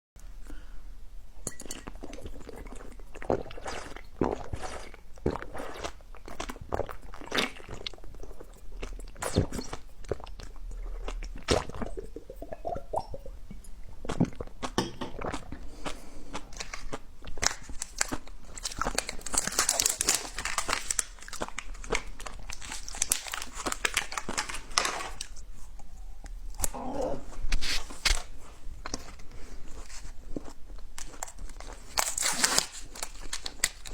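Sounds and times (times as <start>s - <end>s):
crunching and chewing crisp food: 1.4s - 12.4s, 13.6s - 33.9s.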